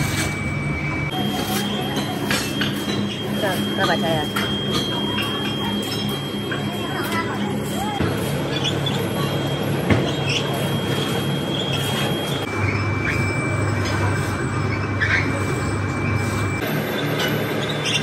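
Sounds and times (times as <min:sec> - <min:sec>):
mixer motor hum and rumble: 0:00.0 - 0:18.0.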